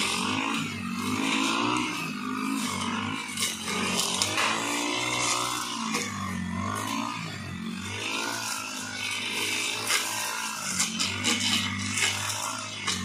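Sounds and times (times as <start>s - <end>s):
brush cutter engine running: 0.0s - 13.0s.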